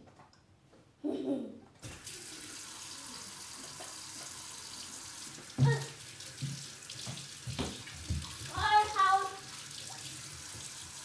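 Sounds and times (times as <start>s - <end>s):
tap water running into sink: 1.8s - 11.0s.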